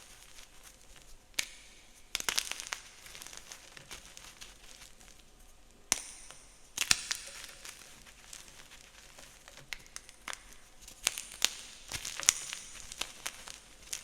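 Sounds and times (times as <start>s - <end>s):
chalk crumbling by hand: 0.0s - 14.0s.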